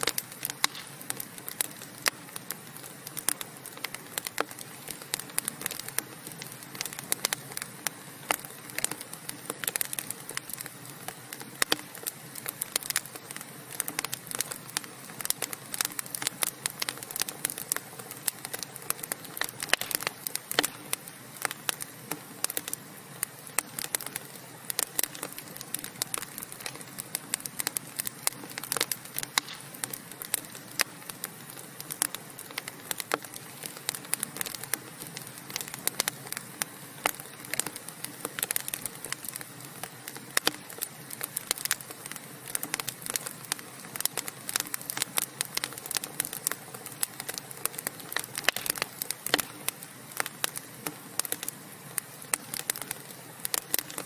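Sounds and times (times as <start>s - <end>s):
soft hiss of fire: 0.0s - 54.0s
wood fire crackling and popping: 0.0s - 54.0s.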